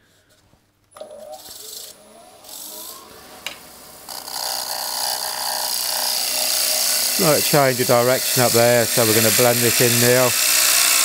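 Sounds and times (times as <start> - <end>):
gouge scraping spinning wood: 1.2 - 11.0.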